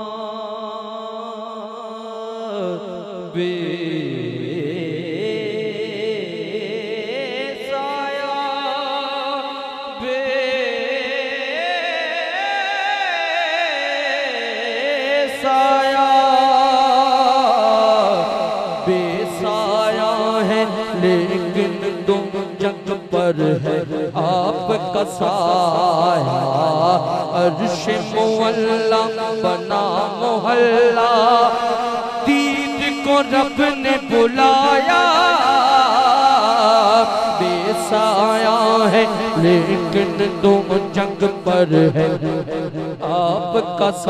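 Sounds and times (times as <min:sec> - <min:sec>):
man singing into a microphone: 0:00.0 - 0:44.0.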